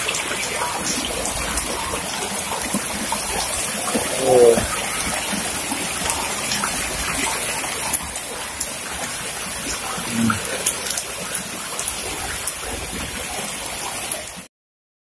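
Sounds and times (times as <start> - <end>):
heavy rain on wet paving: 0.0 - 14.5
raindrops ticking close by: 0.0 - 14.5.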